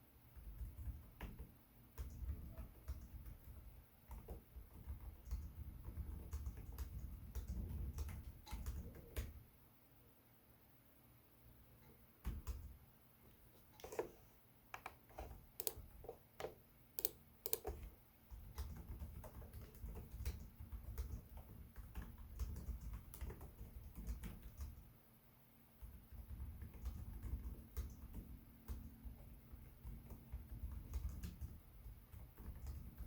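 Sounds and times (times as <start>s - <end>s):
laptop keyboard typing: 0.3s - 9.4s, 12.2s - 12.8s, 14.8s - 24.9s, 25.8s - 33.0s.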